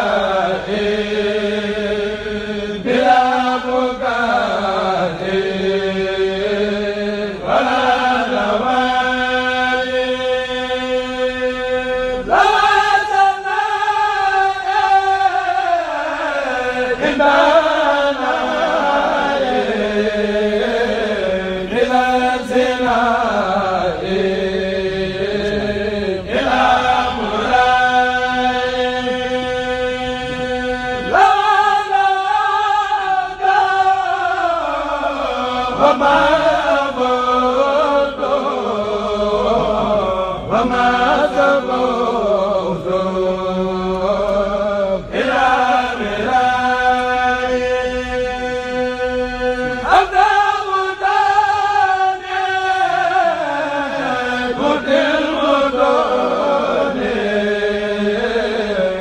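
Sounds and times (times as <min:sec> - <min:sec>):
men chanting unaccompanied: 0:00.0 - 0:59.0.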